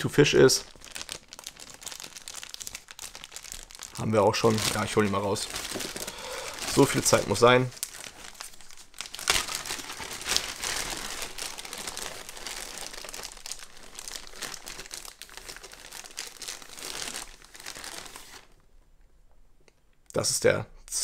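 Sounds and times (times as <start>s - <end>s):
plastic bag crinkling: 0.0s - 18.6s.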